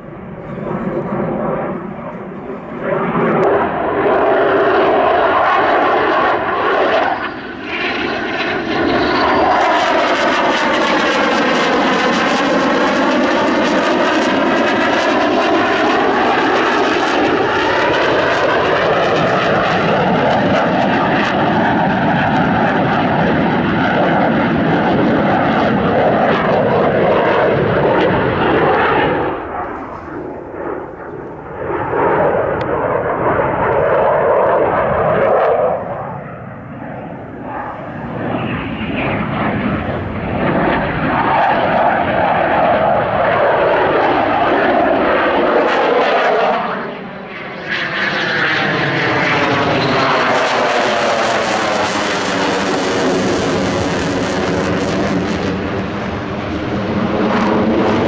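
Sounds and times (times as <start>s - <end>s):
fighter jet engine roar: 0.0s - 58.0s.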